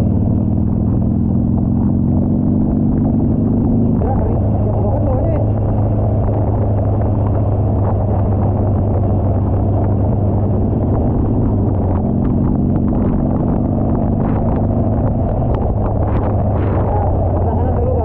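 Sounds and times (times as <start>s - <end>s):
motorcycle engine droning: 0.0s - 18.0s.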